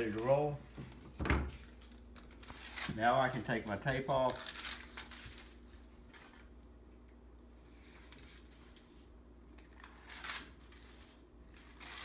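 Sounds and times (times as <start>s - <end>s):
tape being peeled off: 1.6s - 12.0s.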